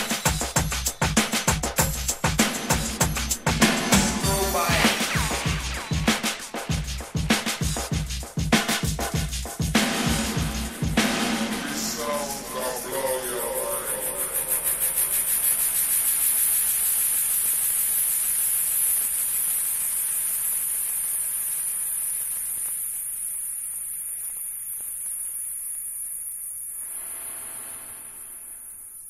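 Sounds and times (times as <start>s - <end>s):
high hiss of noise: 0.0s - 29.0s.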